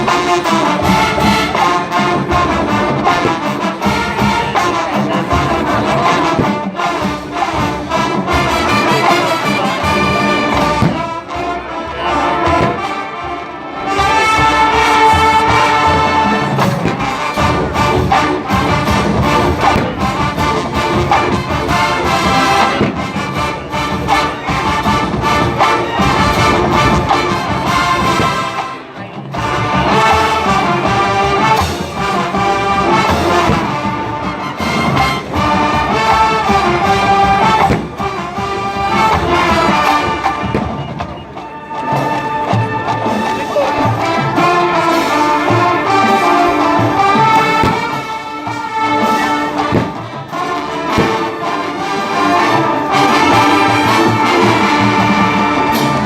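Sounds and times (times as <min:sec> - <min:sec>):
drums: 0:00.0 - 0:56.0
marching band playing: 0:00.0 - 0:56.0.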